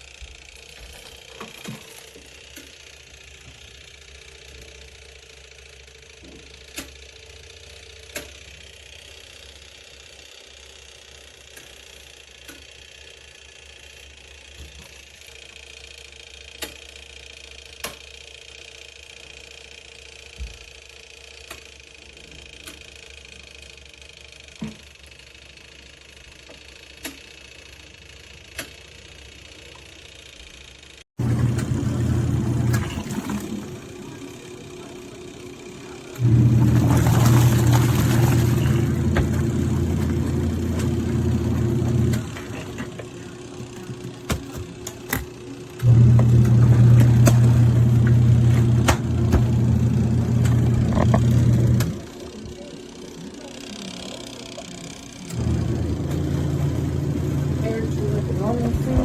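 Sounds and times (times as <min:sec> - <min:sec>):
washing machine motor humming: 0:00.0 - 0:59.0.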